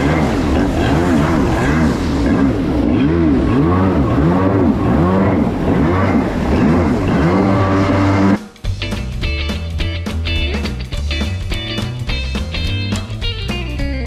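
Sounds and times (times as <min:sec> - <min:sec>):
jet ski engine running: 0:00.0 - 0:13.6
guitar music: 0:00.0 - 0:14.0.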